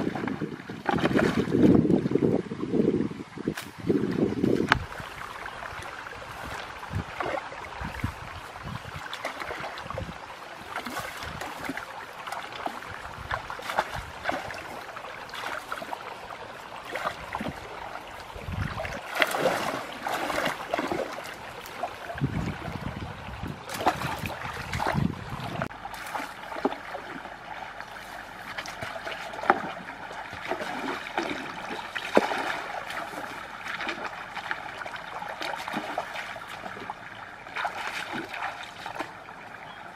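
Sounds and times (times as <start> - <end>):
muddy water splashing: 0.0 - 2.4, 3.4 - 39.9.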